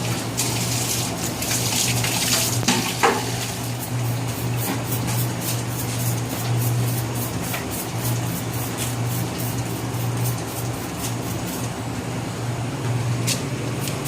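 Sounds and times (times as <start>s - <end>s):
steady low hum: 2.6s - 14.0s.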